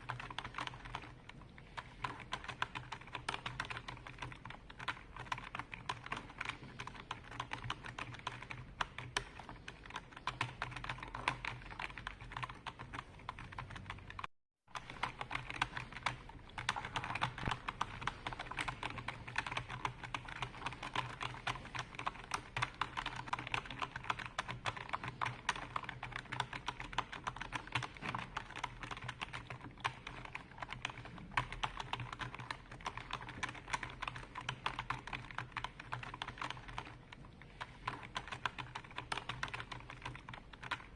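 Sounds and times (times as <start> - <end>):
computer keyboard typing: 0.0 - 40.9.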